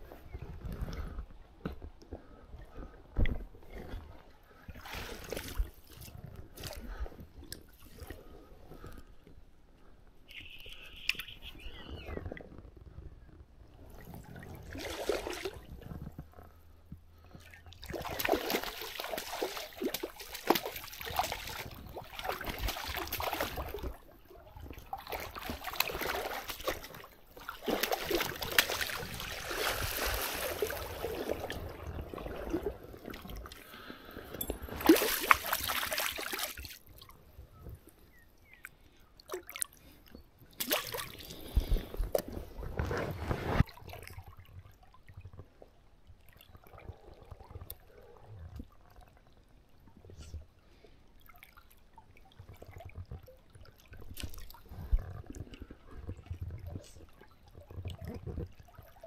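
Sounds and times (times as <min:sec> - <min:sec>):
water splashing and sloshing: 0:00.1 - 0:09.3, 0:11.0 - 0:59.0.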